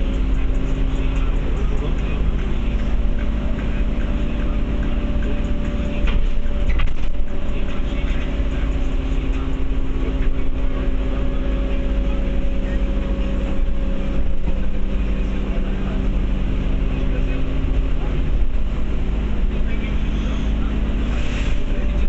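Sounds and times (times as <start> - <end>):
bus engine and road noise: 0.0 - 22.0
rattles inside bus: 0.0 - 22.0.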